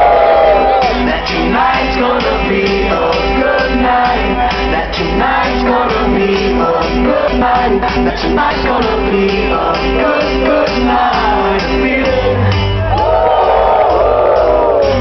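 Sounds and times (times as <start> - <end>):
crowd shouting and singing: 0.0 - 15.0
dance music with steady beat: 0.0 - 15.0
heavy bass: 0.0 - 15.0.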